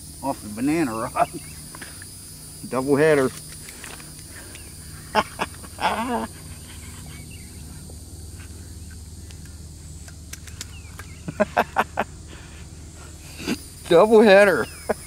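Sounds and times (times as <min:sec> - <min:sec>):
high insect drone: 0:00.0 - 0:15.0
low hum: 0:00.0 - 0:15.0.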